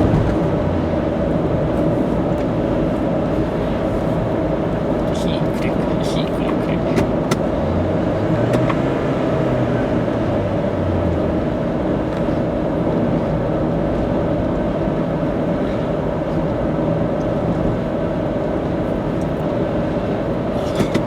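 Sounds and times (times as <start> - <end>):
car tyre and engine noise: 0.0 - 21.0.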